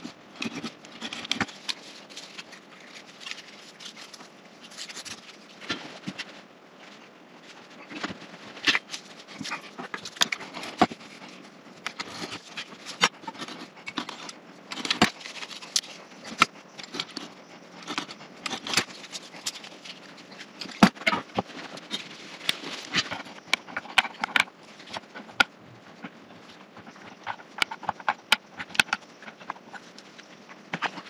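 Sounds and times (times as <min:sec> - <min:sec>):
wooden blocks and tools on workbench: 0:00.0 - 0:31.0.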